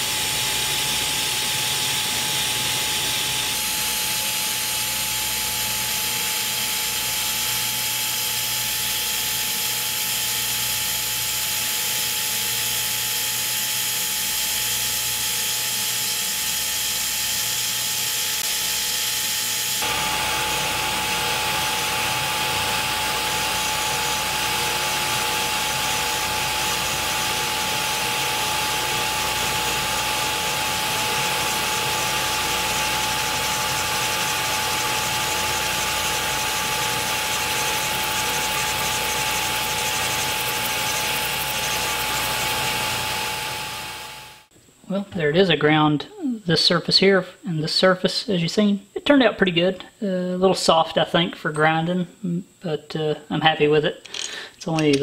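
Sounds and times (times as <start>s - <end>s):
grinding wheel on steel: 0.0s - 44.5s.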